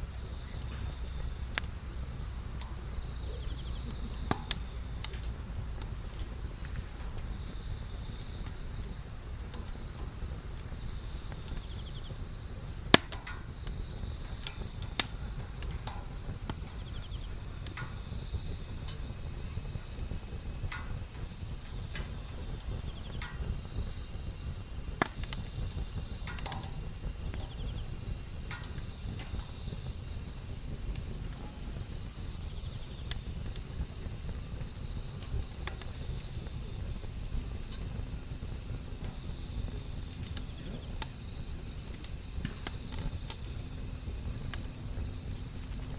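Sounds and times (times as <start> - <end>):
campfire crackling and popping: 0.0 - 45.9
insects trilling: 0.0 - 45.9.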